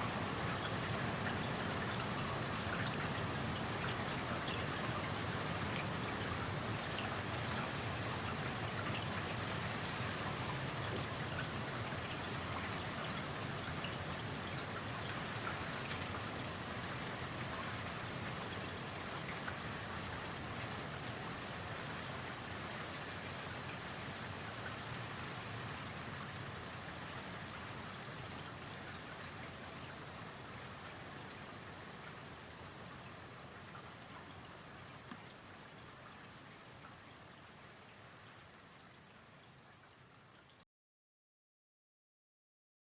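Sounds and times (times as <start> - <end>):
steady rain hiss: 0.0 - 40.4.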